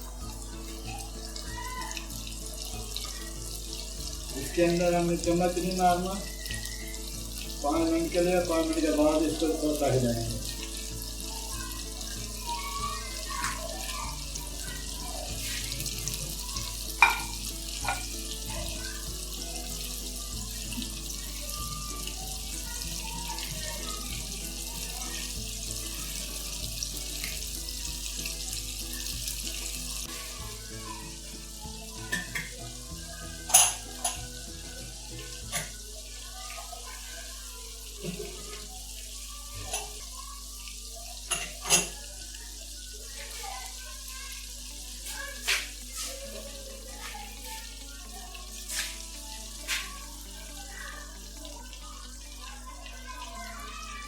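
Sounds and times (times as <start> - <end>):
oil popping and crackling: 0.0 - 36.3, 43.1 - 53.9
chicken frying in hot oil: 0.0 - 54.0.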